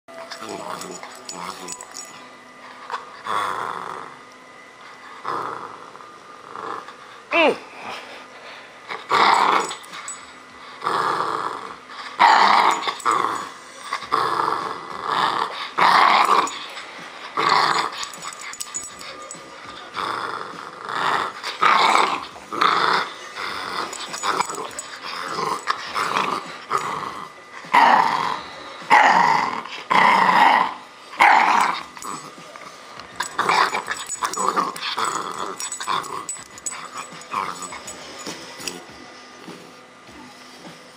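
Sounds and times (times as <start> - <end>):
puppy play-growling: 0.2 - 7.2, 8.8 - 39.6.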